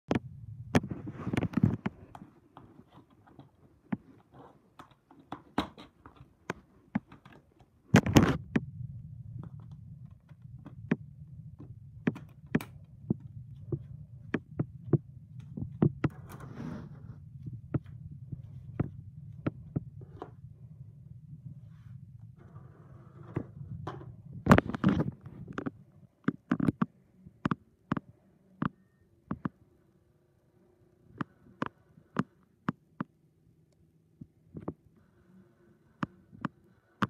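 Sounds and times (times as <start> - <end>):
steady low hum: 0.1 - 37.0.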